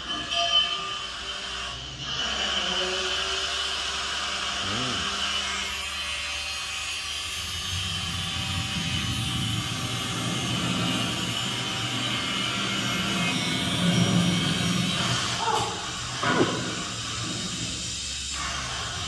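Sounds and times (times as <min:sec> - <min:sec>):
angle grinder cutting metal: 0:00.0 - 0:19.0.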